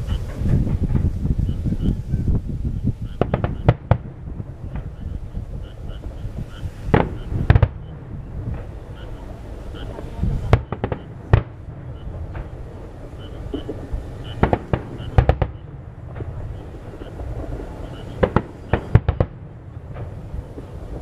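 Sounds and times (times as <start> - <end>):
low rumble: 0.0 - 21.0
firework shells bursting: 2.9 - 21.0.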